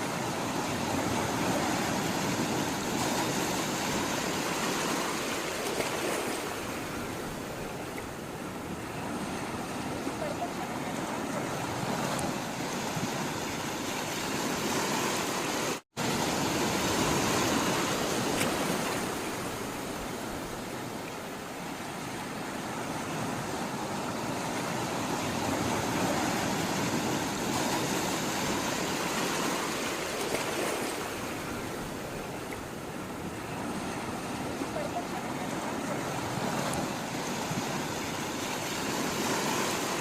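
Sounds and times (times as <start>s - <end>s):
sea water rushing and washing: 0.0s - 40.0s.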